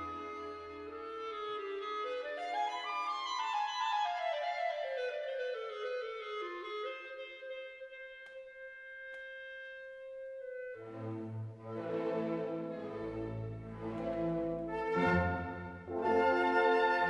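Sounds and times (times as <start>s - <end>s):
wind instrument melody: 0.0s - 17.0s.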